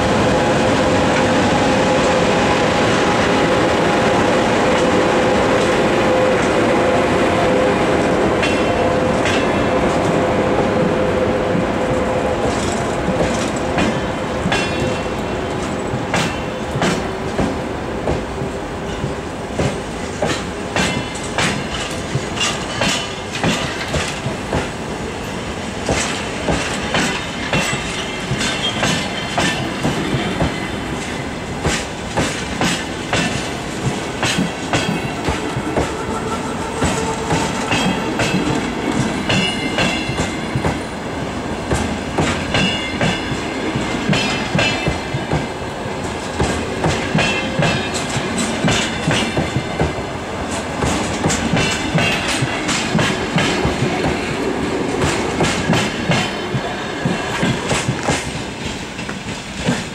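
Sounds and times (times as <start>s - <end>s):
train rumble: 0.0s - 59.9s
wheels clickety-clack on rail joints: 8.4s - 11.6s, 12.4s - 59.9s.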